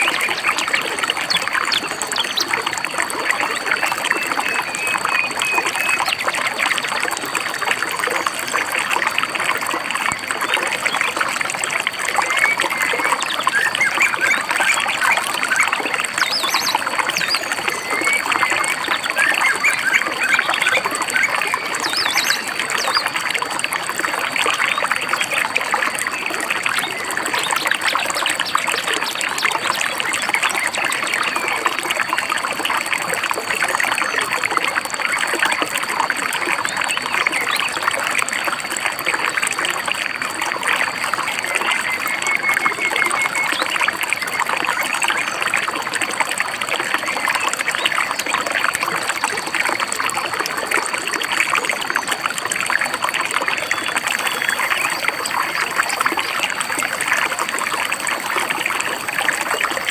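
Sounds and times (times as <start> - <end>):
river babbling over stones: 0.0 - 59.9.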